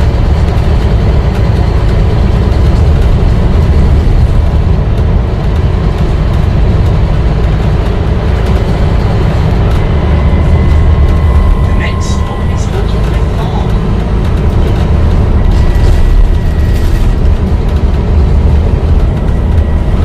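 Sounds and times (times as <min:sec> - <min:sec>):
bus diesel engine running: 0:00.0 - 0:20.0
road rumble: 0:00.0 - 0:20.0.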